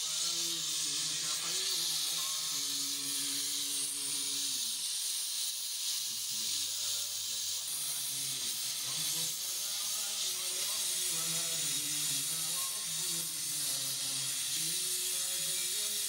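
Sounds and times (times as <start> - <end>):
gas welding torch hissing: 0.0 - 16.0.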